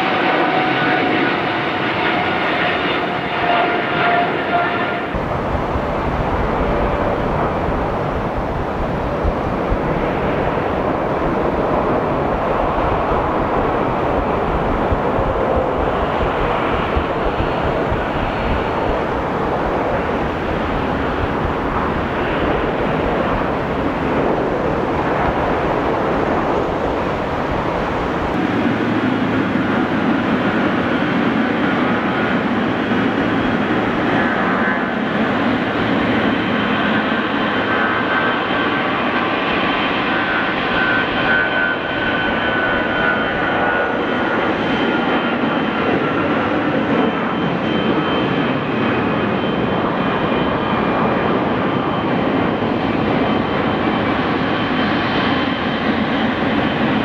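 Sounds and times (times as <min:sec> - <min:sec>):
jet engine hum while taxiing: 0:00.0 - 0:57.0
jet engines rumbling: 0:00.0 - 0:57.0.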